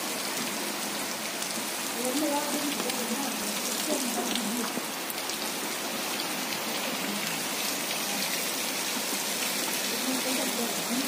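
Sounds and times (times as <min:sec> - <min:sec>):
heavy rain on foliage: 0:00.0 - 0:11.0.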